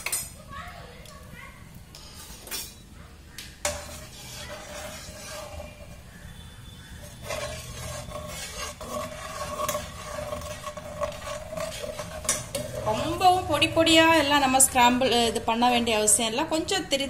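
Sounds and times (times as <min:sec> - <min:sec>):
spatula scraping metal pan: 0:02.0 - 0:02.8, 0:03.6 - 0:16.6.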